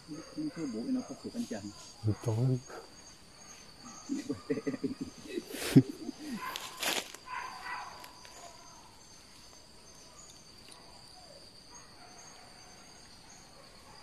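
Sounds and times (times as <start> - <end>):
faint insect chirps: 0.0 - 14.0
insects droning: 0.0 - 14.0
rustle: 0.8 - 14.0.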